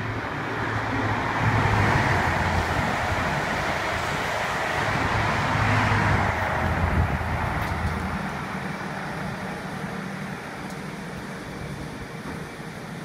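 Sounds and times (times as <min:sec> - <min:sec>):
passenger train rumbling past: 0:00.0 - 0:13.0.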